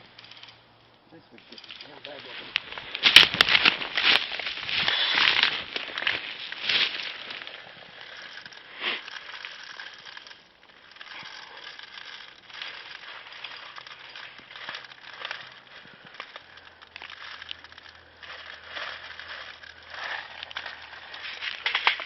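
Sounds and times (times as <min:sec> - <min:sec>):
rustling in dry undergrowth: 0:00.0 - 0:22.0
small clicks: 0:00.0 - 0:22.0.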